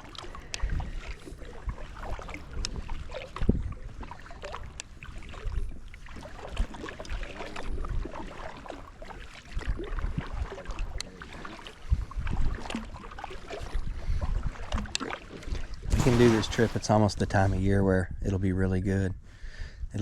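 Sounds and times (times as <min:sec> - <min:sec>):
knocks and thuds from boat: 0:00.0 - 0:17.5
water sloshing and splashing: 0:00.0 - 0:17.7
wind on microphone: 0:00.0 - 0:20.0.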